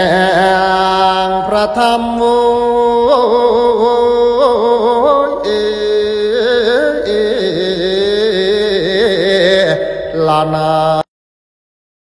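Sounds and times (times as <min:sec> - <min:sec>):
person singing devotional song: 0:00.0 - 0:11.1.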